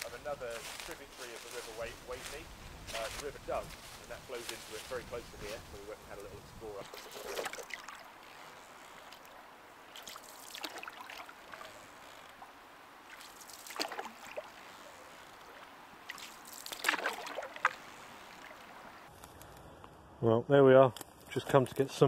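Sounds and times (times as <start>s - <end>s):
canoe paddle strokes splashing: 0.0s - 19.1s.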